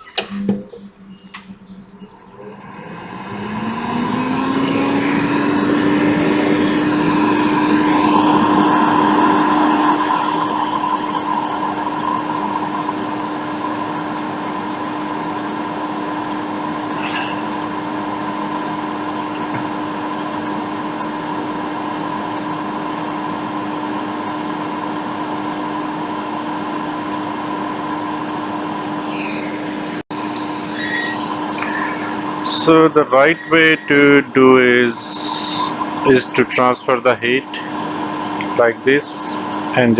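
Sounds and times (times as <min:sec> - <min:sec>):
small electric fan whirring: 0:00.0 - 0:39.9.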